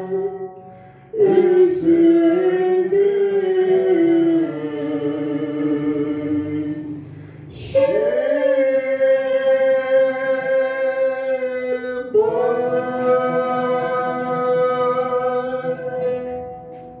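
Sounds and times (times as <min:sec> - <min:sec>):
man and woman singing: 0:00.0 - 0:16.5.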